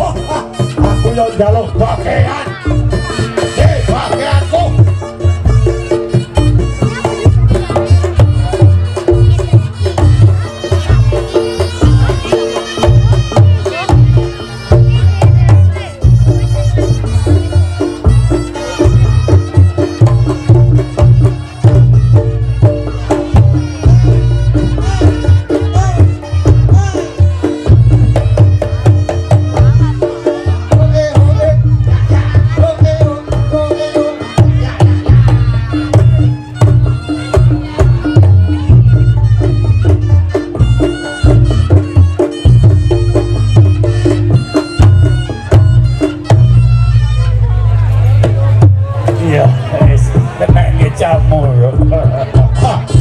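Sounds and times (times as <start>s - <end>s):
heavy drum strokes: 0.0s - 53.0s
reedy shawm melody: 0.0s - 53.0s.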